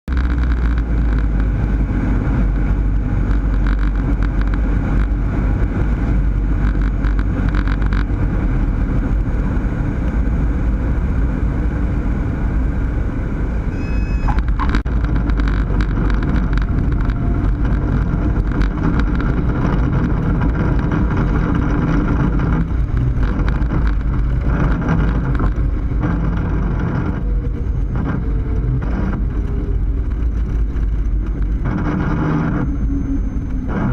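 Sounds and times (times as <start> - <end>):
light aircraft engine drone: 0.2 - 33.9.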